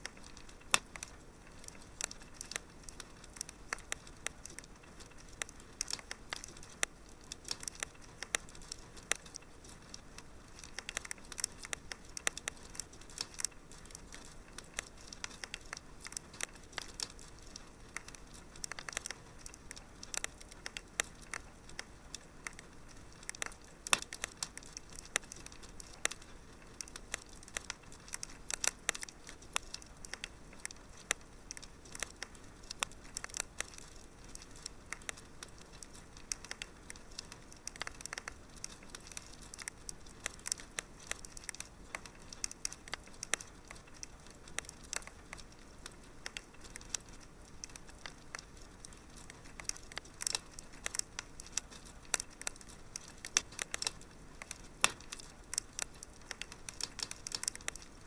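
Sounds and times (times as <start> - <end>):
faint hiss: 0.0 - 58.0
wood fire crackling: 0.0 - 58.0.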